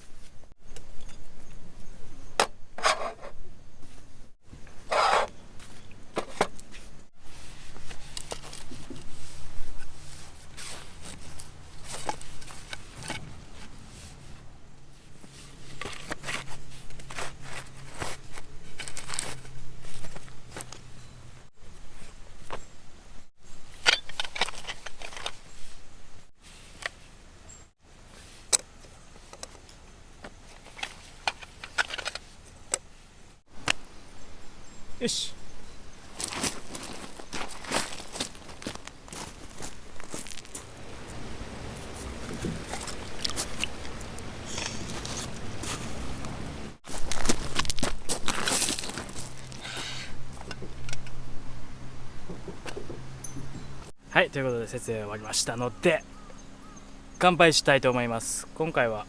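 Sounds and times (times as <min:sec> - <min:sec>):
camping gear rustling: 0:00.0 - 0:54.1, 0:55.3 - 0:57.2.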